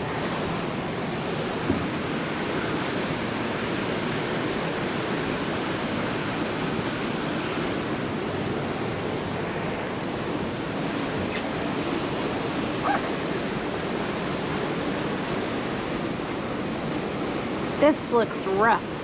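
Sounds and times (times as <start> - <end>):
turbulent water rushing: 0.0 - 19.0.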